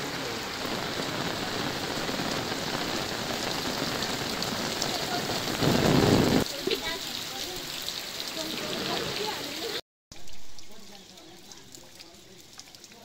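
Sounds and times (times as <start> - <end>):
rain falling: 0.0 - 13.0
raindrops pattering on umbrella: 0.0 - 13.0.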